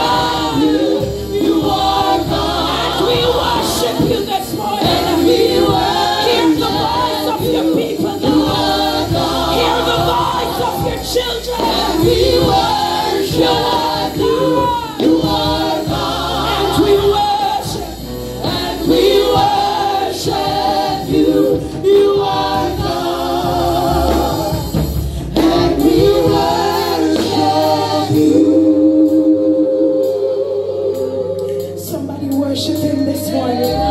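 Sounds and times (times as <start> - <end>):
gospel group singing in parts: 0.0 - 33.9
keyboard accompaniment: 0.0 - 33.9.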